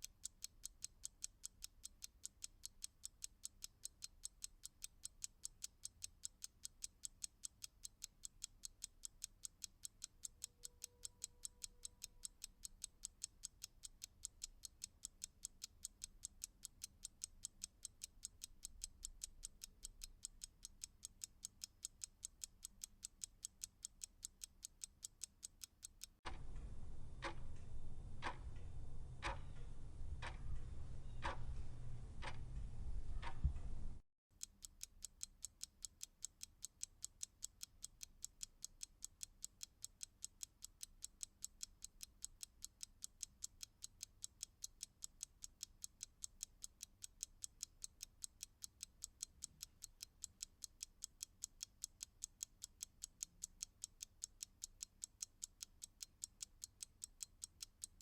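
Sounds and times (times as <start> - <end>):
clock ticking quickly: 0.0 - 26.4, 27.2 - 27.4, 28.2 - 28.6, 29.2 - 29.5, 30.2 - 30.4, 31.2 - 31.4, 32.2 - 32.4, 34.4 - 58.0
clock ticking slowly: 0.0 - 33.7, 34.4 - 58.0.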